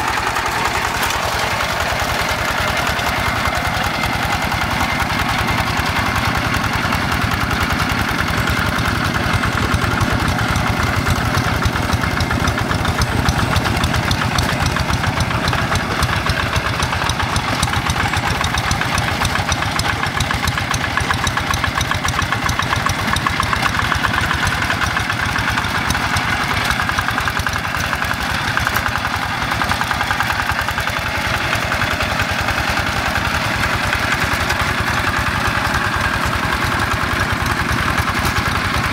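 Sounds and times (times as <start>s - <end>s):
diesel engine running under load: 0.0s - 38.9s
wheels churning through mud: 0.0s - 38.9s.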